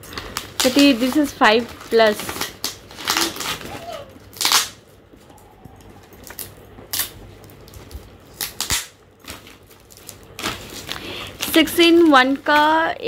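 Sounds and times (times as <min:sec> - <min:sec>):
wrapping paper rustling: 0:00.0 - 0:13.0.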